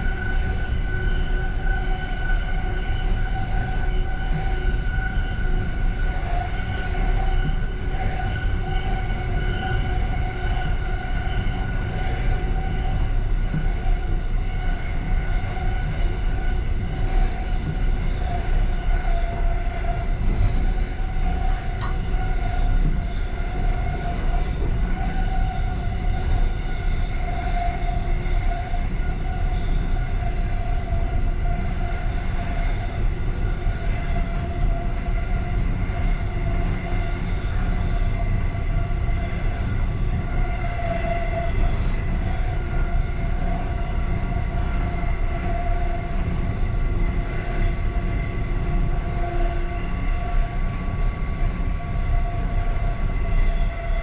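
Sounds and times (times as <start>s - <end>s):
high train whine: 0.0s - 54.0s
train wheels rumbling on rail: 0.0s - 54.0s.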